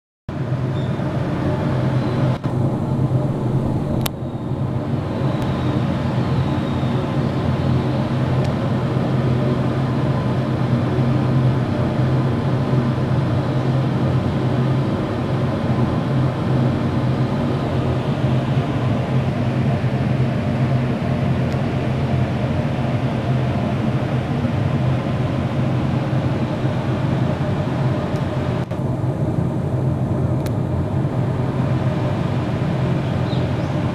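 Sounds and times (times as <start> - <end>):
low mechanical hum: 0.3 - 33.9.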